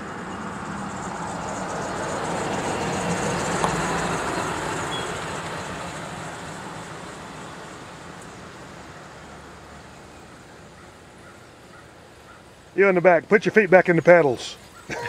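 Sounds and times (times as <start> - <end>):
traffic passing on road: 0.0 - 15.0.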